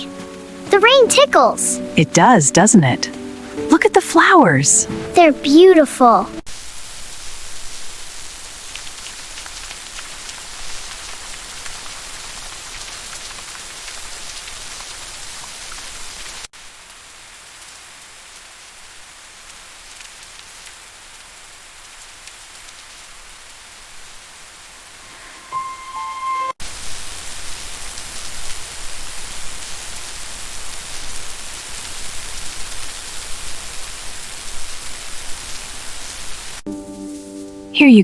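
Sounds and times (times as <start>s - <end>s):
steady rain falling: 0.0s - 25.6s, 26.6s - 38.0s.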